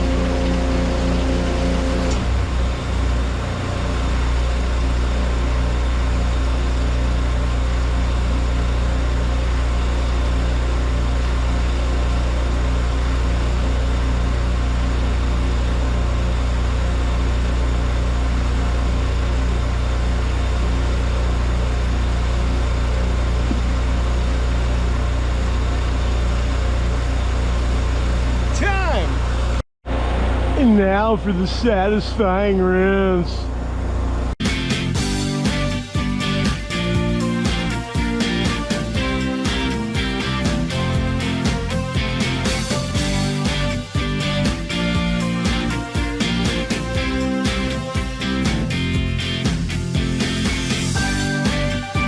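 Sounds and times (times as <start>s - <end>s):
pressure washer engine running: 0.0s - 52.0s.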